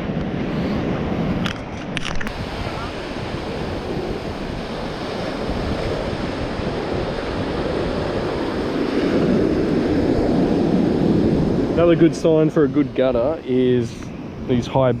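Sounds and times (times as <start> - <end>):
wind buffeting microphone: 0.0 - 15.0
surf washing onto beach: 2.2 - 15.0.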